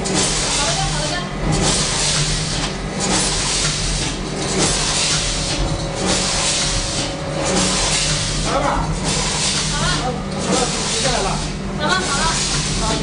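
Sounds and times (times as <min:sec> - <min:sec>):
machine low hum: 0:00.0 - 0:13.0
packaging machine hissing: 0:00.0 - 0:13.0.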